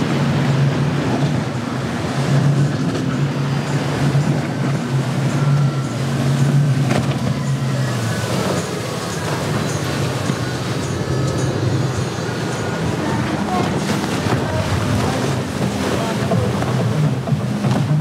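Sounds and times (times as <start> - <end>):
outboard motors droning: 0.0 - 18.0
wind: 0.0 - 18.0.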